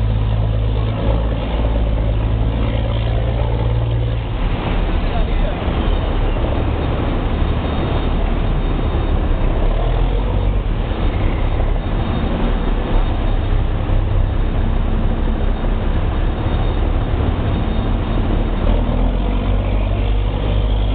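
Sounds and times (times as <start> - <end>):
heavy diesel machinery rumbling: 0.0 - 20.9.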